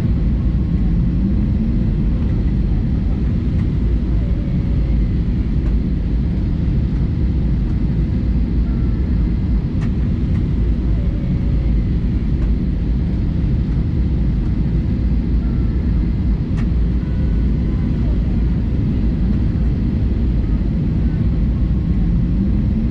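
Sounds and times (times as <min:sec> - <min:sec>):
aircraft cabin engine rumble: 0:00.0 - 0:22.9.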